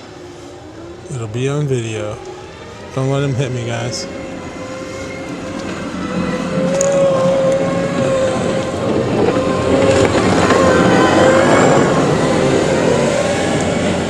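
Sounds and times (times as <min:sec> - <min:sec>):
diesel engine running: 0:00.0 - 0:14.0
steady machine whine: 0:00.0 - 0:14.0.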